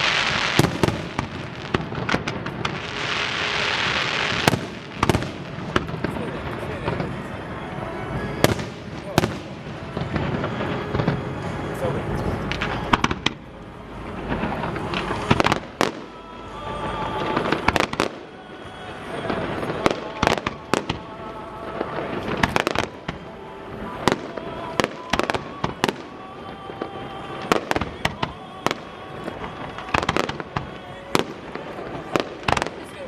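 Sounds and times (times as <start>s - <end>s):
fireworks bangs: 0.0s - 33.0s
fireworks rumble and hiss: 0.0s - 33.0s.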